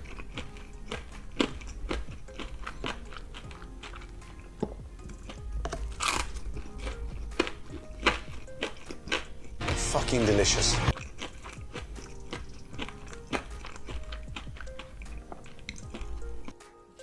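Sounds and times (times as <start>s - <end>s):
crunching and chewing: 0.0s - 9.6s, 10.9s - 16.6s
quiet background music: 0.0s - 17.0s.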